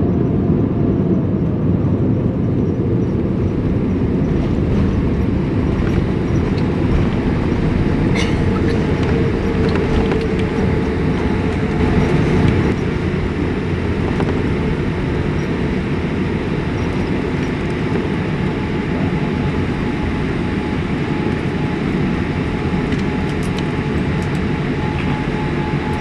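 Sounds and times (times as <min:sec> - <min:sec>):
airplane cabin rumble on runway: 0:00.0 - 0:26.0.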